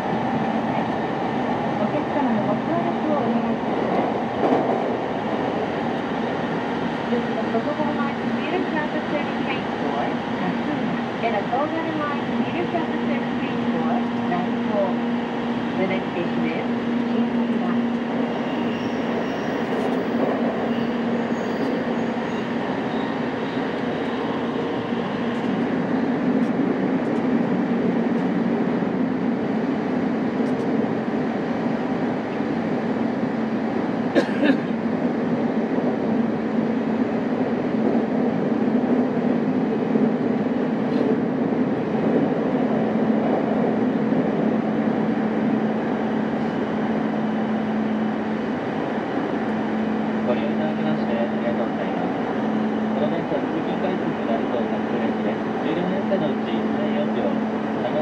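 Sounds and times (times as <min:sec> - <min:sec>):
wheel and rail rumble: 0:00.0 - 0:58.0.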